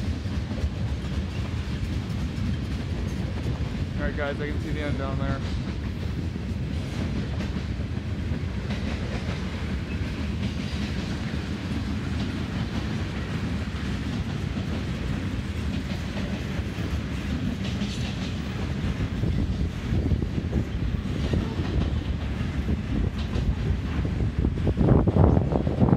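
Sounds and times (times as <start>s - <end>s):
wheels clacking over rail joints: 0.0s - 24.8s
freight train rolling past: 0.0s - 25.9s.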